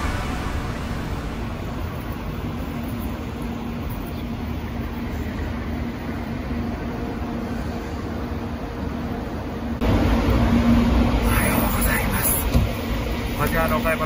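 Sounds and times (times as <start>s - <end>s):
city street traffic: 0.0s - 14.0s
low steady hum: 0.0s - 14.0s.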